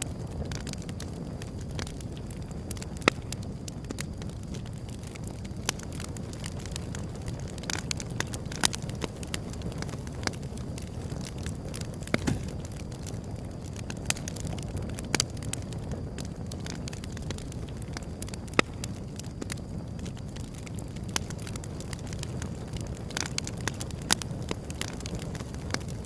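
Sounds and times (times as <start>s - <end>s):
burning wood crackling and popping: 0.0s - 26.0s
low rumble of flames: 0.0s - 26.0s.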